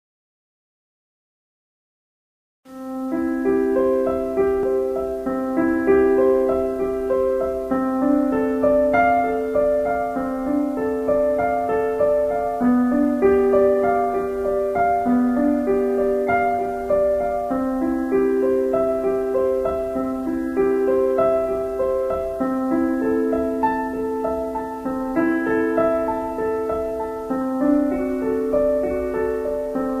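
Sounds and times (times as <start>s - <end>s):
calm keyboard music: 2.7s - 30.0s.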